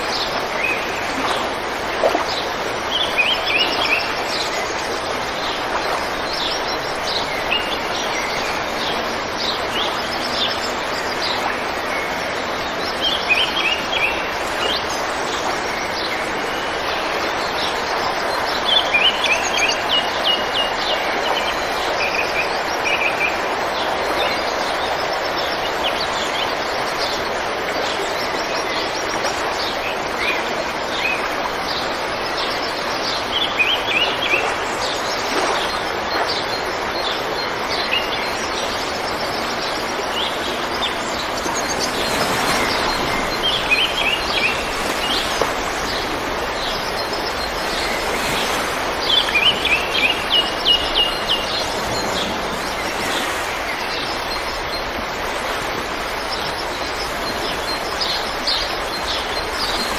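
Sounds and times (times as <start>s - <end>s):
birds chirping: 0.0s - 59.9s
river water rushing: 0.0s - 59.9s.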